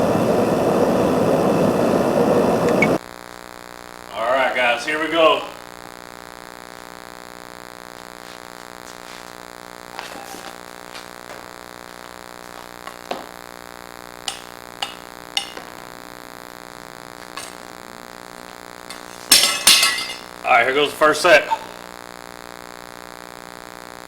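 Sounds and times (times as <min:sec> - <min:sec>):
steady electronic hum: 0:00.0 - 0:24.0.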